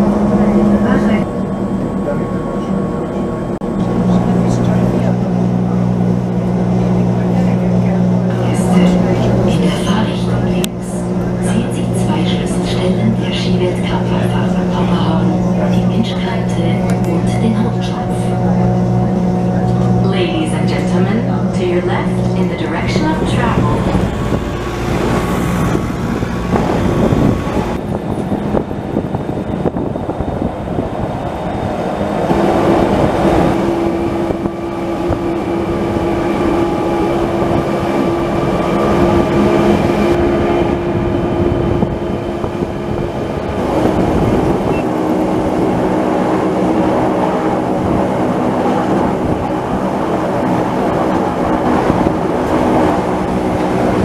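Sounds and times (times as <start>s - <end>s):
drive hum and whine: 0.0s - 54.0s
train wheels rumbling on rail: 0.0s - 54.0s.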